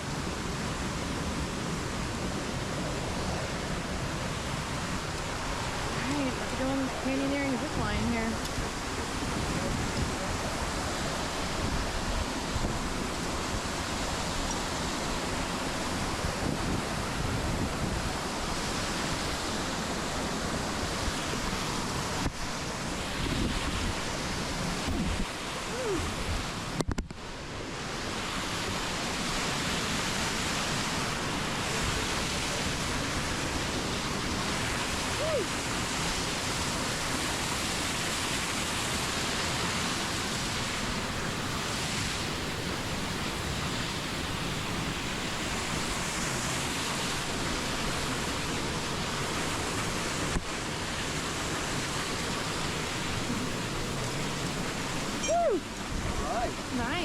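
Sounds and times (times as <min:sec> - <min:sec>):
waterfall and creek rushing: 0:00.0 - 0:57.0.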